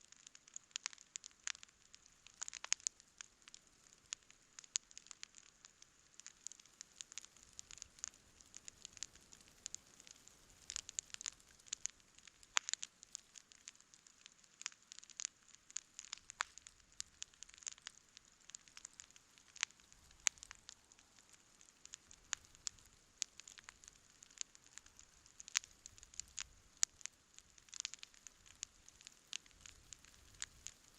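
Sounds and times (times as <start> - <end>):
campfire crackling and popping: 0.0 - 30.9
faint hiss: 0.0 - 30.9.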